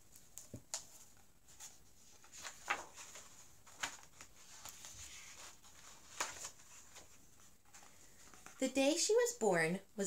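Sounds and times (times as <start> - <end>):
book pages turning: 0.0 - 8.6.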